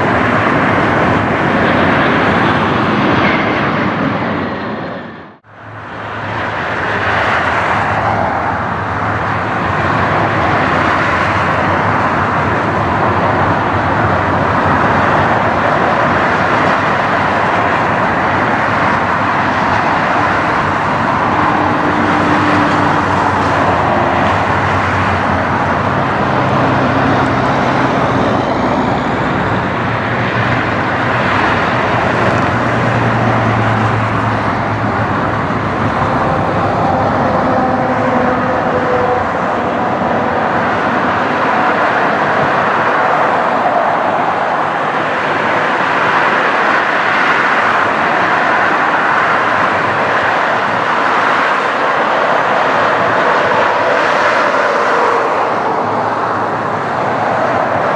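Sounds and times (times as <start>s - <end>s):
jet engines roaring: 0.0s - 57.9s.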